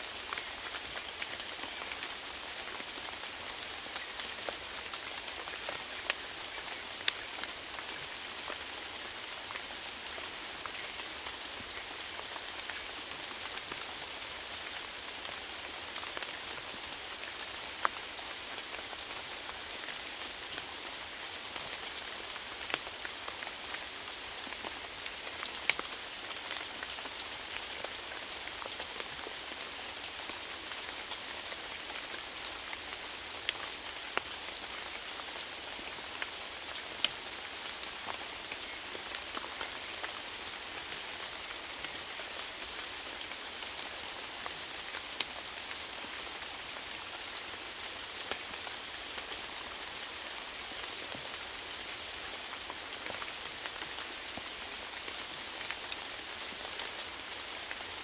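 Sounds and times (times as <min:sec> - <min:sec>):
rain hissing on a surface: 0:00.0 - 0:58.0.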